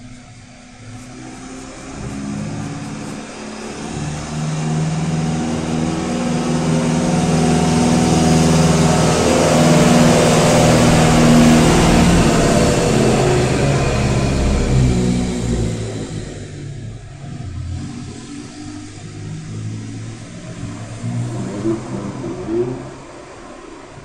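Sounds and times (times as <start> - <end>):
vehicle engine passing by: 0.0 - 24.0.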